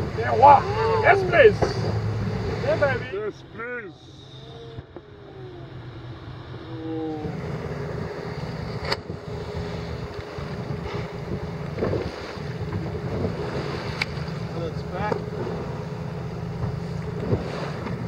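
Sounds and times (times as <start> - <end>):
outboard motors running: 0.0 - 18.0.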